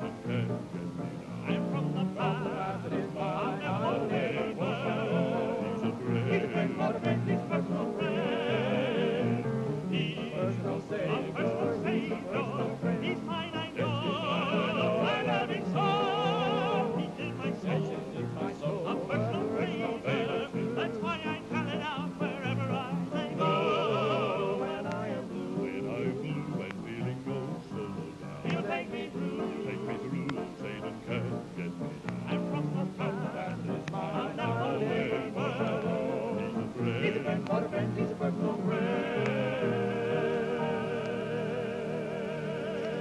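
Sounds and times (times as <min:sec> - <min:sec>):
gospel voices singing in harmony: 0:00.0 - 0:43.0.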